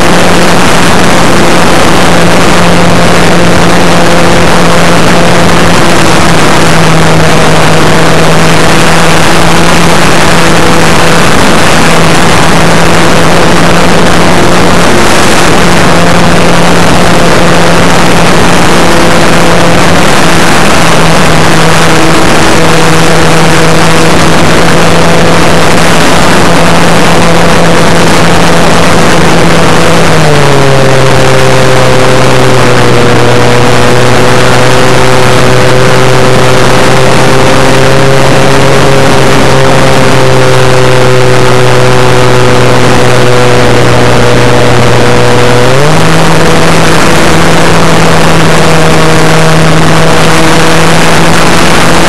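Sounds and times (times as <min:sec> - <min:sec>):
electric motor and propeller whine: 0:00.0 - 0:52.0
wind noise: 0:00.0 - 0:52.0.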